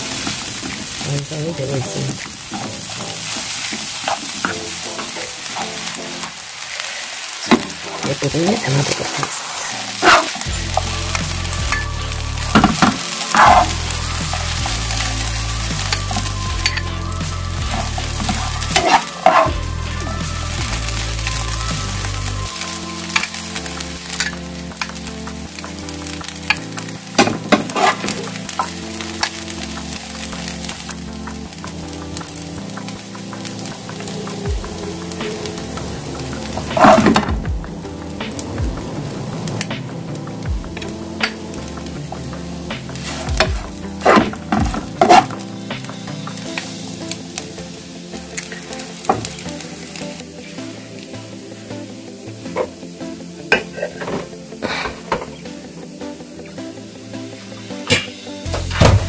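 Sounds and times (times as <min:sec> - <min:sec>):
background music: 0:00.0 - 0:59.0
rice sizzling in frying pan: 0:00.0 - 0:59.0.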